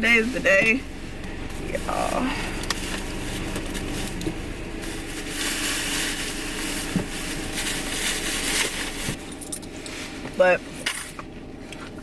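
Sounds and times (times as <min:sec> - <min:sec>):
rustling and crinkling: 0:00.2 - 0:12.0.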